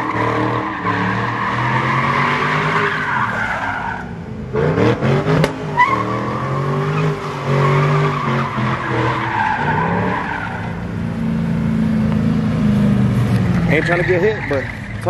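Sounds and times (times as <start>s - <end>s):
tyres squealing on asphalt: 0.0s - 11.4s, 13.3s - 15.0s
car engine revving: 0.0s - 15.0s.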